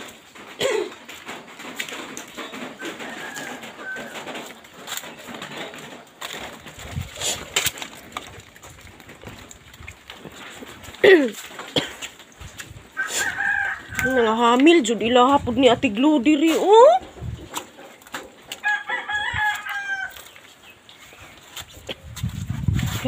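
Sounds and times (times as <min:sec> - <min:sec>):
birds falling calls: 0:00.0 - 0:14.9, 0:17.0 - 0:22.2.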